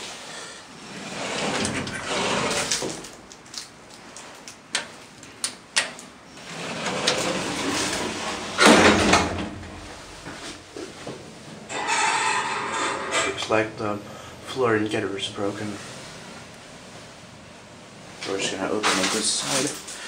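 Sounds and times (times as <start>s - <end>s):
elevator doors sliding: 0.0s - 3.3s, 6.3s - 20.0s.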